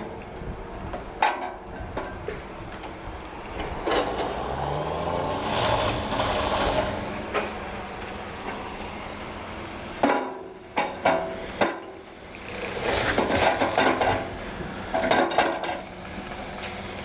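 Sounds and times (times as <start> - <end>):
heavy machine engine rising: 0.0 - 17.0.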